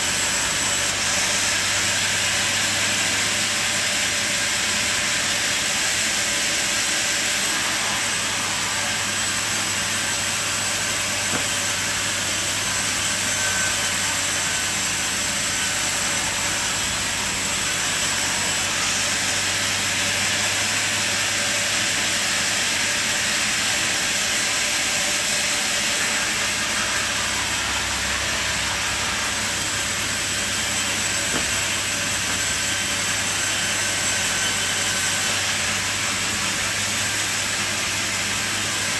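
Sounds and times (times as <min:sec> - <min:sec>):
sawmill machine running: 0:00.0 - 0:38.9.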